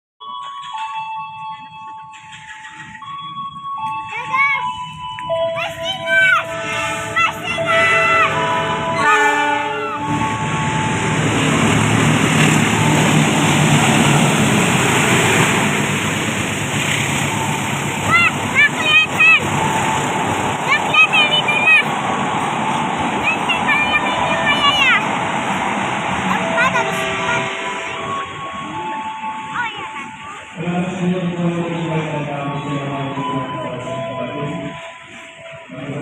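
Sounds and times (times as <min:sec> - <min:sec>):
train rumbling past: 0:00.2 - 0:36.0.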